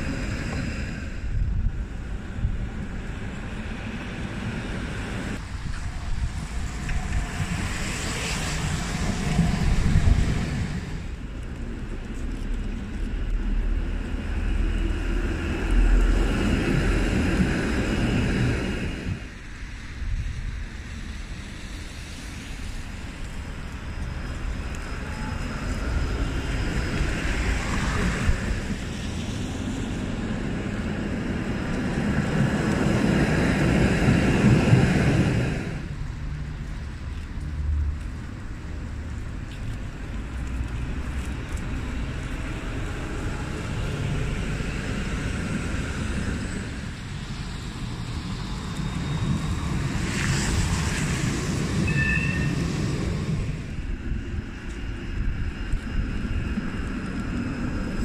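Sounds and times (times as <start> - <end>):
road traffic noise: 0.0 - 58.0
tram rumbling past: 0.0 - 58.0
wind rumbling on microphone: 0.0 - 58.0.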